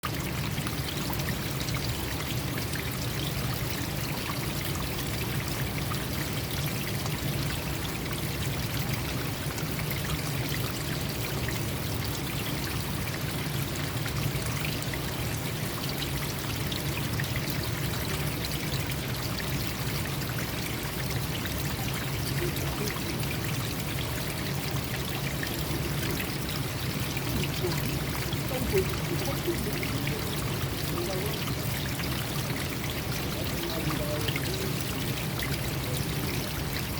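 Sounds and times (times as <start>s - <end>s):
stream splashing over rocks: 0.0s - 36.9s.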